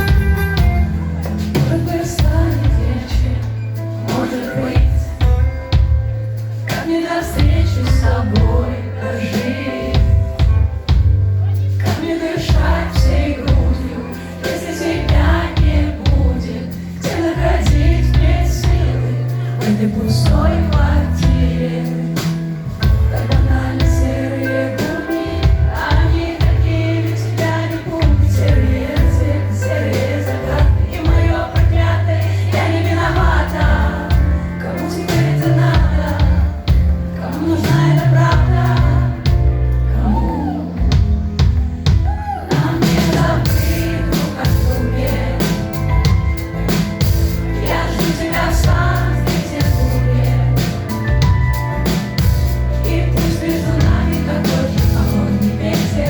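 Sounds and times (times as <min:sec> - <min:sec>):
live pop music with singer: 0:00.0 - 0:56.0.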